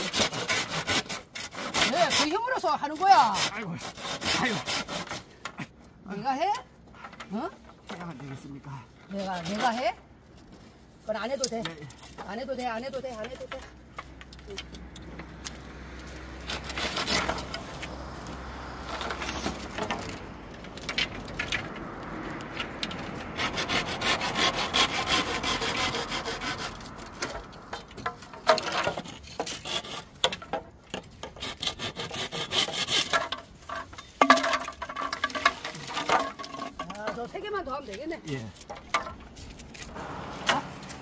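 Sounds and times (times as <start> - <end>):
hand saw cutting bamboo: 0.0 - 5.7, 7.1 - 10.0, 11.2 - 21.7, 22.5 - 41.0.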